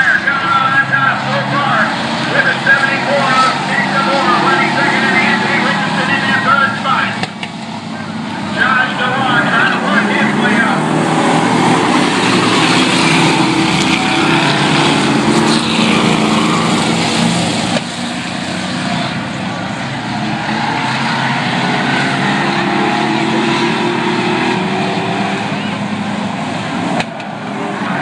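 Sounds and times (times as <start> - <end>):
vehicle engines running loudly: 0.0 - 28.0.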